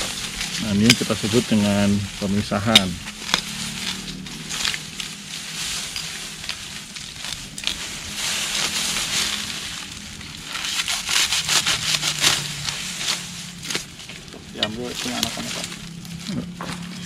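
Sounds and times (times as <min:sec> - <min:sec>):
dry stalks rustling and crackling: 0:00.0 - 0:17.0.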